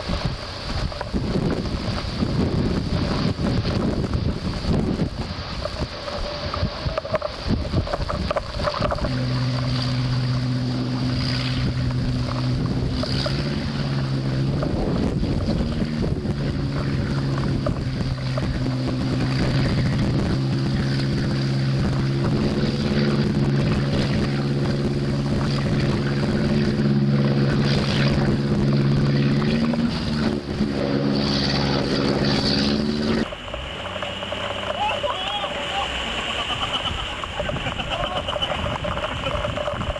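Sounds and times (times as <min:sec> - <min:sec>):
boat engine running: 0:00.0 - 0:39.9
wind and water rushing: 0:00.0 - 0:39.9.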